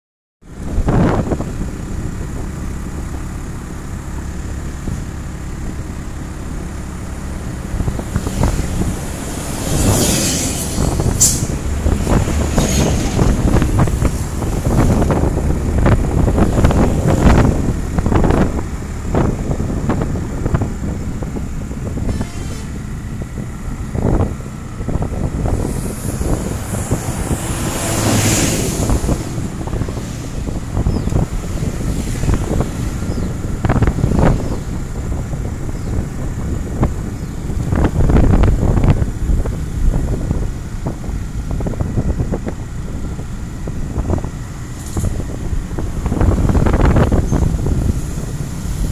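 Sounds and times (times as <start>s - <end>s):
passing vehicles: 0.4s - 48.9s
road noise: 0.4s - 48.9s
vehicle engine running: 0.4s - 48.9s.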